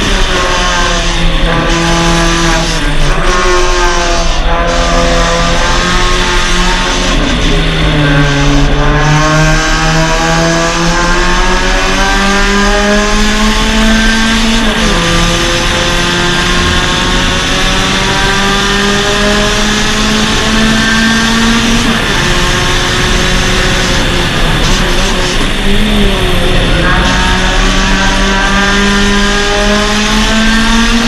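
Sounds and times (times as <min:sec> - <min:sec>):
car engine accelerating hard: 0:00.0 - 0:31.0.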